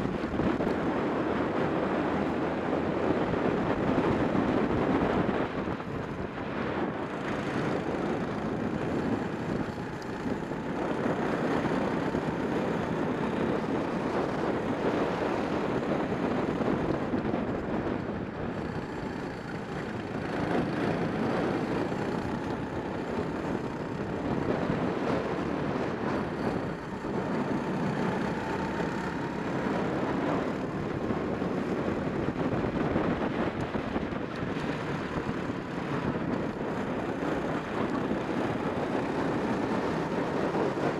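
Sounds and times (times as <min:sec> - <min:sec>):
kart engine at speed: 0:00.0 - 0:40.9.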